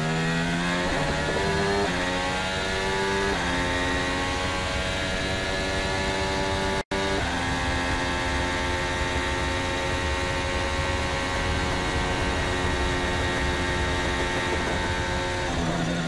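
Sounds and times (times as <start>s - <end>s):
racing car engine at full throttle: 0.0s - 16.0s.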